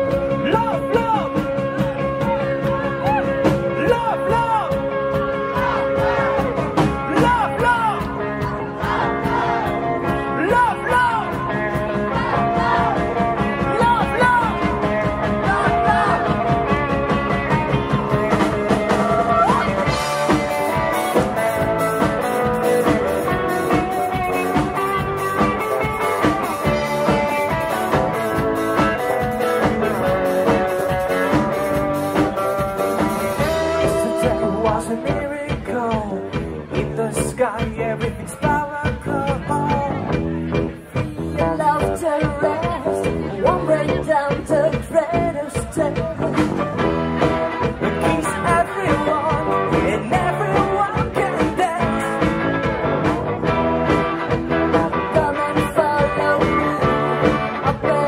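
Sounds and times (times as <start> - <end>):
bass: 0.0 - 58.0
drums: 0.0 - 58.0
lead guitar line with bending notes: 0.0 - 58.0.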